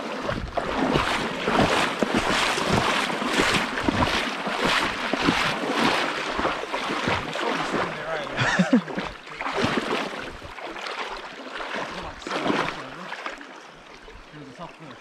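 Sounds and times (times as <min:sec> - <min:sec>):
river current rushing: 0:00.0 - 0:15.0
water splashing from wading: 0:00.0 - 0:15.0.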